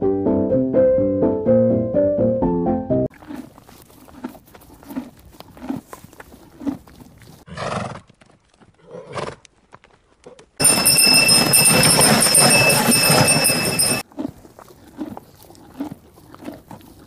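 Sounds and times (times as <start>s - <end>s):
horse hooves clopping on dirt: 3.1s - 17.0s.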